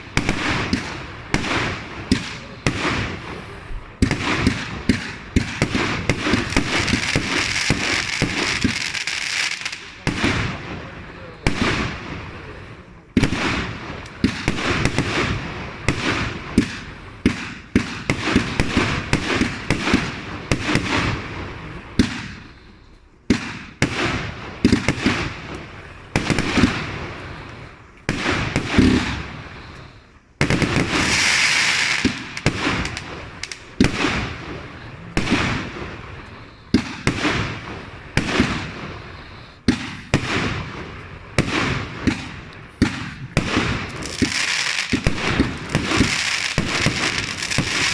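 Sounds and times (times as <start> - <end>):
firework bangs: 0.0 - 47.9
firework hissing and crackling: 0.0 - 47.9.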